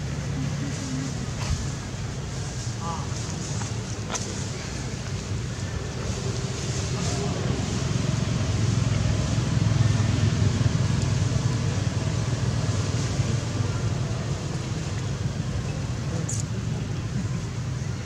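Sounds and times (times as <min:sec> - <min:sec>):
low rumbling background noise: 0:00.0 - 0:18.0.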